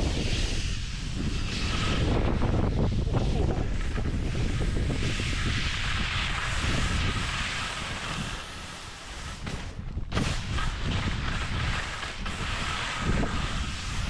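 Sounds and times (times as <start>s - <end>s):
skis sliding through snow: 0.0s - 14.0s
wind buffeting microphone: 0.0s - 14.0s.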